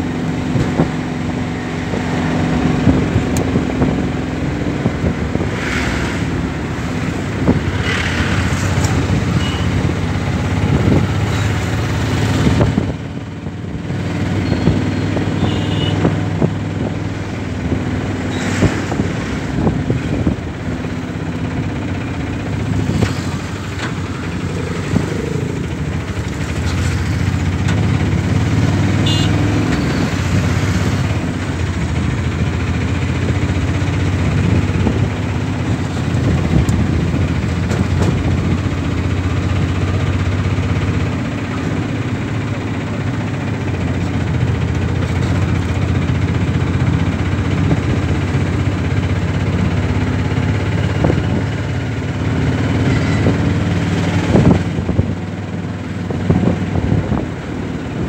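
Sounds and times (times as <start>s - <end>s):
road and traffic noise: 0.0s - 58.0s.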